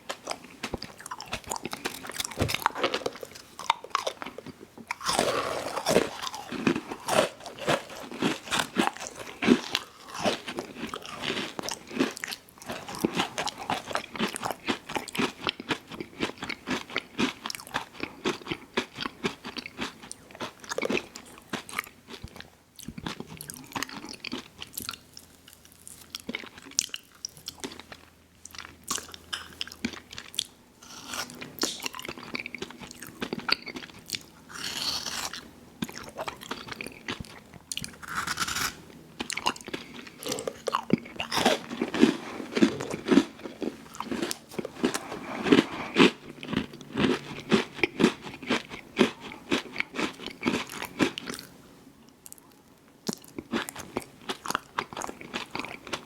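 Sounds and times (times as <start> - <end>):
crunchy wet chewing: 0.1 - 51.6, 53.0 - 56.0.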